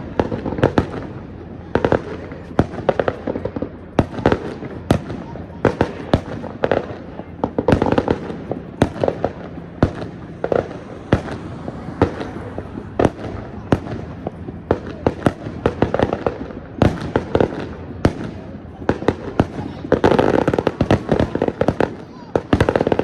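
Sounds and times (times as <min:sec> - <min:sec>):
fireworks bangs and pops: 0:00.0 - 0:23.0
rumble of explosions: 0:00.0 - 0:23.0.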